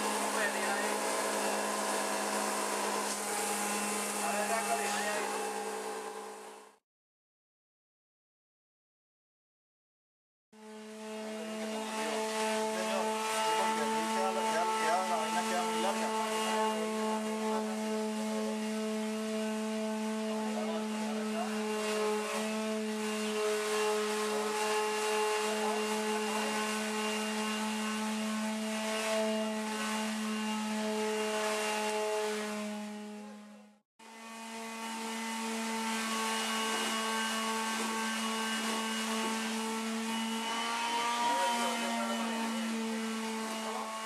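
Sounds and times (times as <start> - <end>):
power tool motor whining: 0.0 - 6.8, 10.6 - 44.0.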